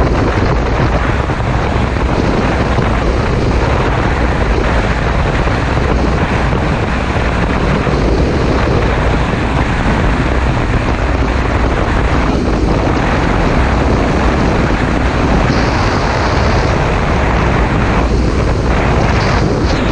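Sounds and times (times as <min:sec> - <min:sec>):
wind rush on microphone: 0:00.0 - 0:19.9.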